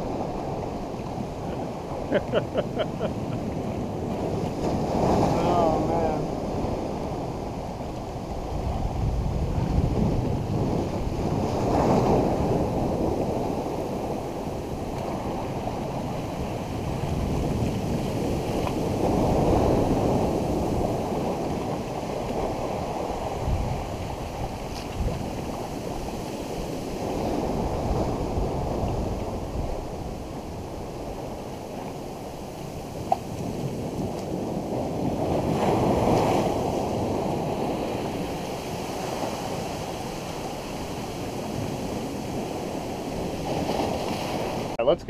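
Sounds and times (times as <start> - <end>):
ocean swell surging into rocks: 0.0 - 44.8.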